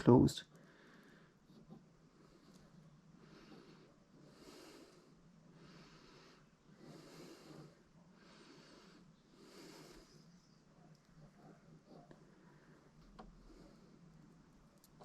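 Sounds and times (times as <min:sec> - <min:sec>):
soft breathing: 0:00.5 - 0:14.7.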